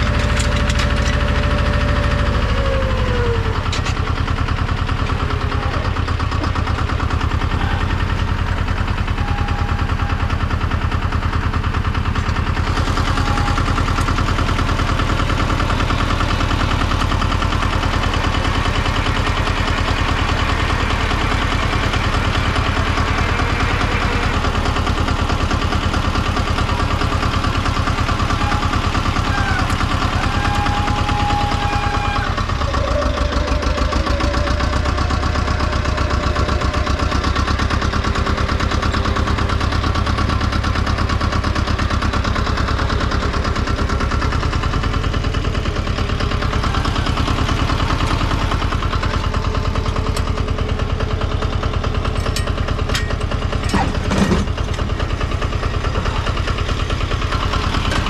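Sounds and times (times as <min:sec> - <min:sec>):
diesel engine knocking: 0:00.0 - 0:58.0.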